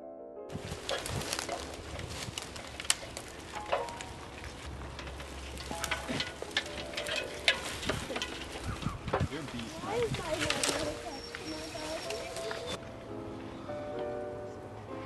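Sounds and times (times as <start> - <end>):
piano piece: 0.0 - 15.0
dry crackling and snapping: 0.5 - 12.8.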